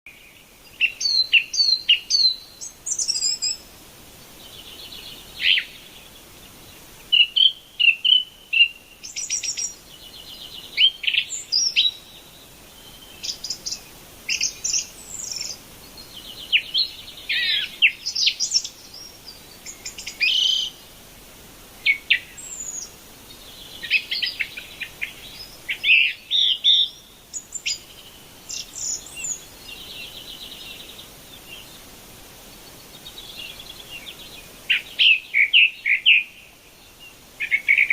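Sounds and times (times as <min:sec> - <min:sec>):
birds singing and chirping: 0:00.1 - 0:21.0, 0:21.8 - 0:37.9.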